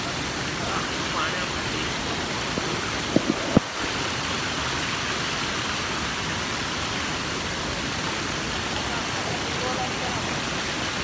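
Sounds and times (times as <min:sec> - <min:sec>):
white water rushing over rocks: 0:00.0 - 0:11.0.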